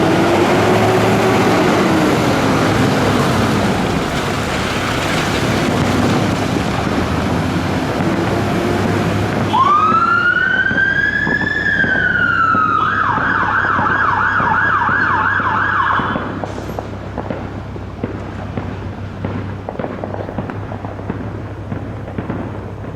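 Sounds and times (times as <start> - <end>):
fire engine siren wail and warble: 0.0 - 22.9
vehicle engine and road rumble: 0.0 - 22.9.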